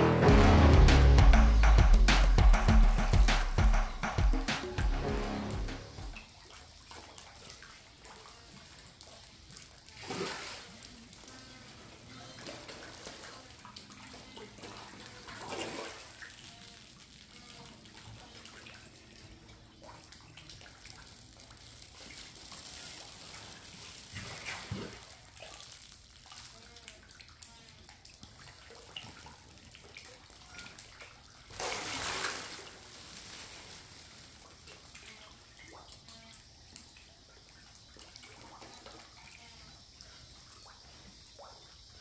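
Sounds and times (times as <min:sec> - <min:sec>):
small water noise: 0:01.6 - 0:42.0
fish splashing and gulping: 0:05.9 - 0:42.0.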